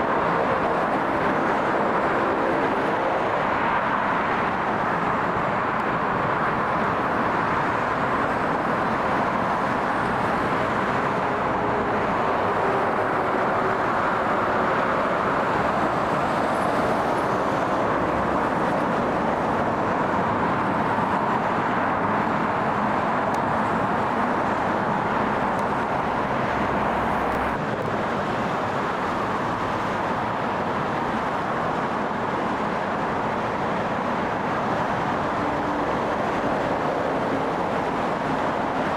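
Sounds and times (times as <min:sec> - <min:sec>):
aircraft engines running: 0:00.0 - 0:38.9.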